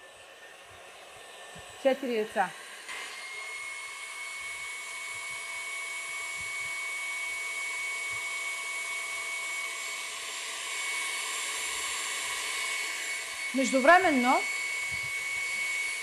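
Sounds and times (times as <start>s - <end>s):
stand mixer motor whine: 0.0s - 16.0s.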